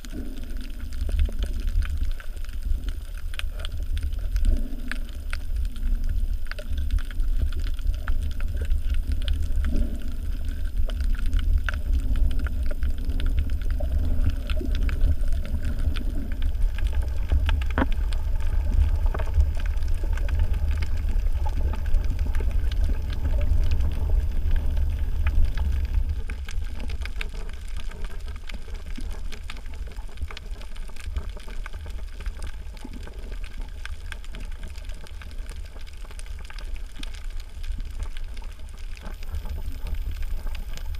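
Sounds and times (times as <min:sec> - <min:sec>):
underwater clicks and crackles: 0:00.0 - 0:40.9
underwater rumble of moving water: 0:00.0 - 0:40.9.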